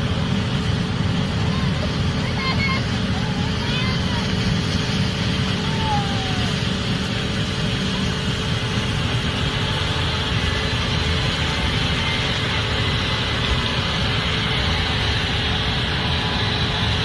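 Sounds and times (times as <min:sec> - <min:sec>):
combine harvester drone: 0:00.0 - 0:17.0.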